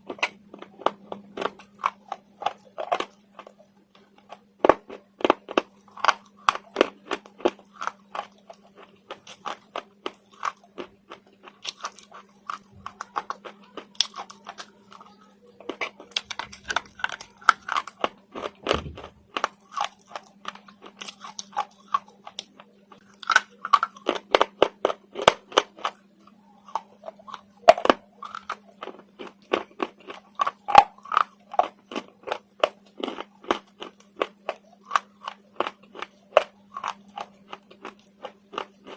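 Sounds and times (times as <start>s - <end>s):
slate being chewed: 0.1s - 38.9s.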